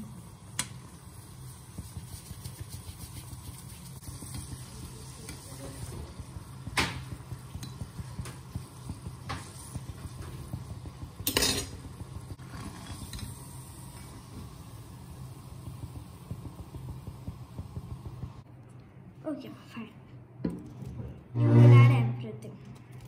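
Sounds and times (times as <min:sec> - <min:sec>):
oil sizzling: 0:00.0 - 0:18.5.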